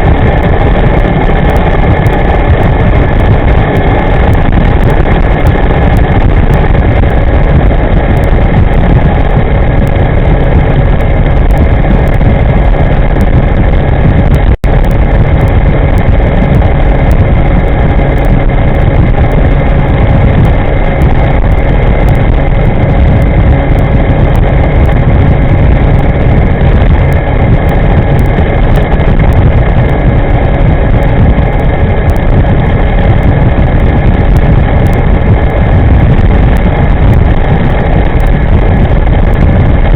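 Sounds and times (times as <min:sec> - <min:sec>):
wind and road noise rushing: 0:00.0 - 0:39.9.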